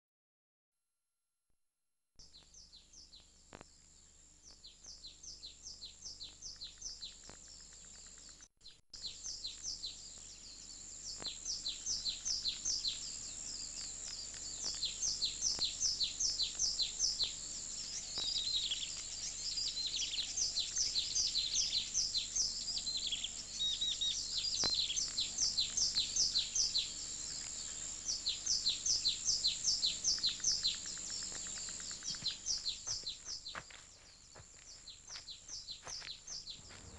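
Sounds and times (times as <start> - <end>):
birds chirping: 2.2 - 36.9.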